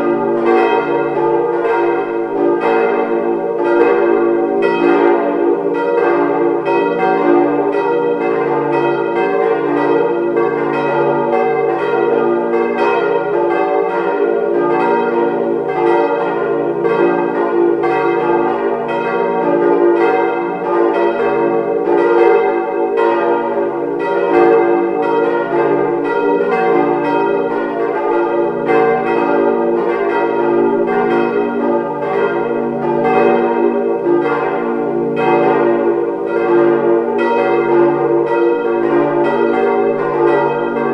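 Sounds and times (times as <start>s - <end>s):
iron church bells pealing: 0.0s - 40.9s.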